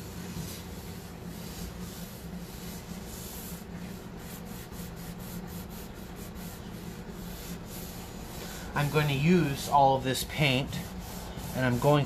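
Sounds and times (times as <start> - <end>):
wet rag rubbing on wood: 0.0 - 12.0.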